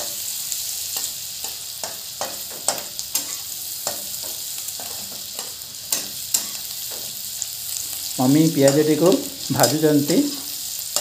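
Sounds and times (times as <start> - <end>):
onions sizzling in oil: 0.0 - 11.0
metal spatula scraping a pan: 0.9 - 11.0.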